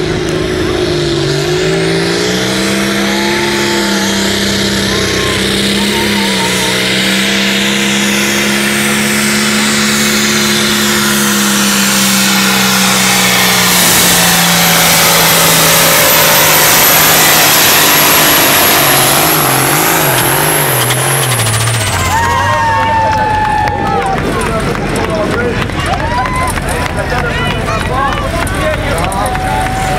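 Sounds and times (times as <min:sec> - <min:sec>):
tractor diesel engine at full throttle: 0:00.0 - 0:29.9.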